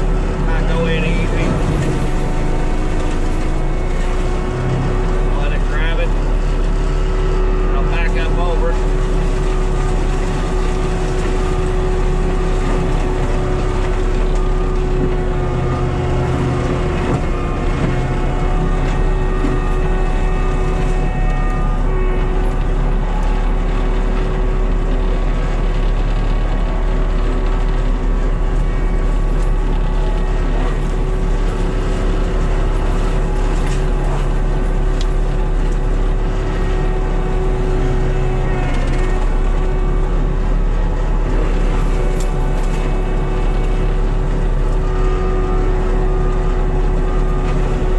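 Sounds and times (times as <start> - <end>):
skid steer engine running: 0.0 - 47.9.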